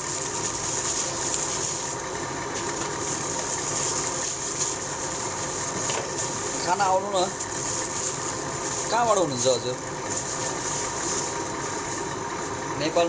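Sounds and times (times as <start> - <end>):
motor humming with hiss: 0.0 - 13.0.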